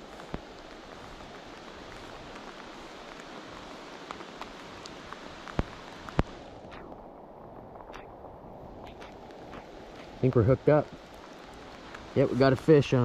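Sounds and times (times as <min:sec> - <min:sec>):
rain falling on river: 0:00.0 - 0:13.0.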